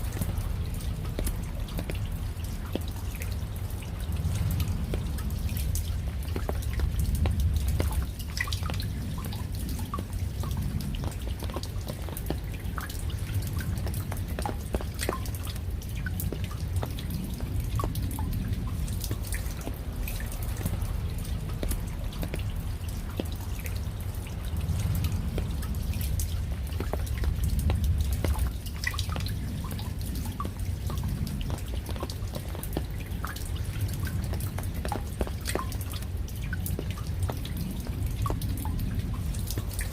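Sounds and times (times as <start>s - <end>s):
raindrops dripping: 0.0s - 39.9s
steady low rumble: 0.0s - 39.9s.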